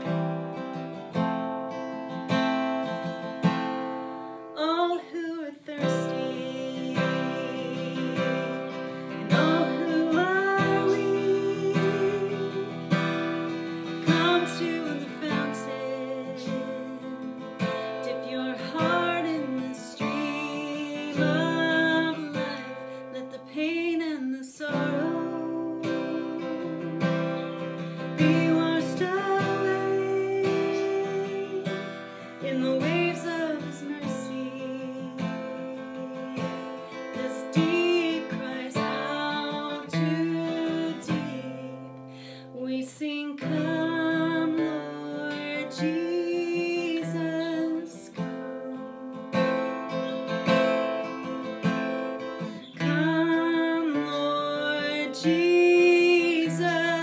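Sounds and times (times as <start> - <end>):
acoustic guitar strumming chords: 0.0 - 57.0
woman singing: 0.0 - 57.0.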